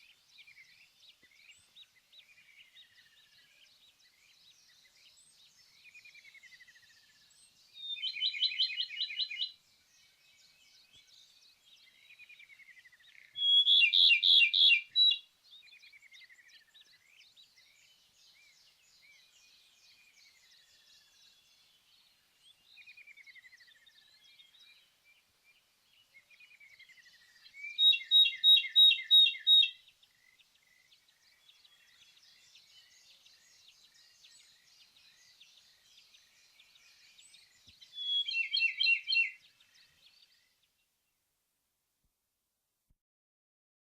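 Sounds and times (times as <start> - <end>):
bird singing trills: 0.0 - 21.6, 26.3 - 40.6.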